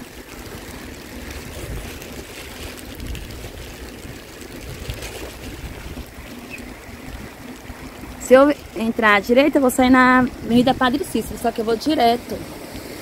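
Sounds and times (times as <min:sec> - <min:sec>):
wind buffeting microphone: 0:00.0 - 0:12.5
bicycle tyres hissing on wet road: 0:00.0 - 0:13.0.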